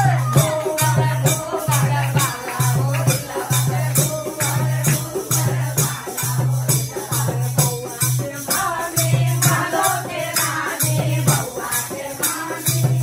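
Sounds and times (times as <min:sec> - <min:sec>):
percussion beat: 0:00.0 - 0:13.0
women singing folk song: 0:00.0 - 0:13.0.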